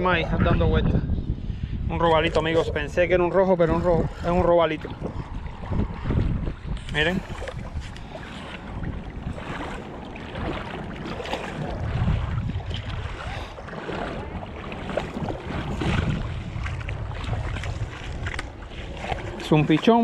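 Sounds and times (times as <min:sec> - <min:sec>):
wind buffeting microphone: 0:00.0 - 0:20.0
water sloshing in shallows: 0:02.1 - 0:20.0.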